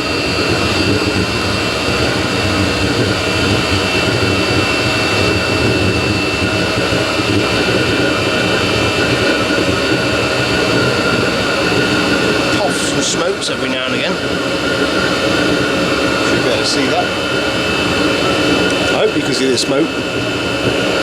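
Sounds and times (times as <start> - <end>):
heater fan rushing noise: 0.0 - 21.0
steady high whine: 0.0 - 21.0.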